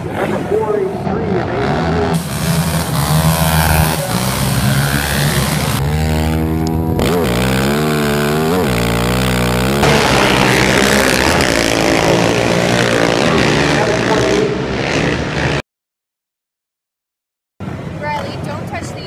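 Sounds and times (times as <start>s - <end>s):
quad engine revving close: 0.0s - 15.6s
racing quads accelerating: 0.0s - 15.6s.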